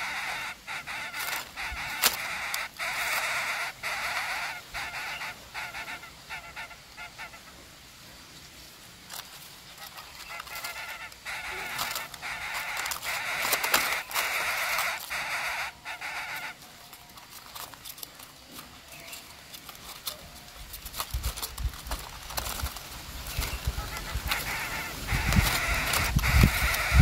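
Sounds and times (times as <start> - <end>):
nestlings harsh begging calls: 0.0 - 7.6, 9.1 - 27.0
small rustles: 0.0 - 27.0.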